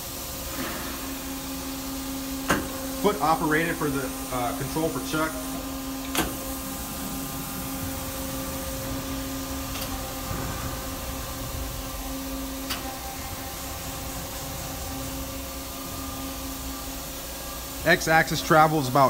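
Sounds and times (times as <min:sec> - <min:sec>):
lathe humming: 0:00.0 - 0:19.0.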